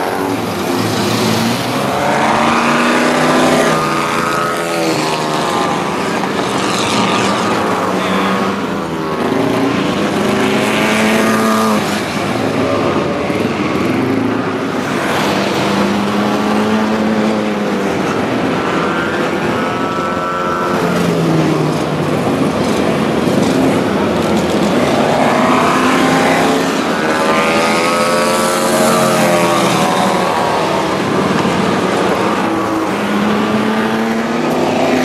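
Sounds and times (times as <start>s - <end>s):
racing car engines passing: 0.0s - 35.0s.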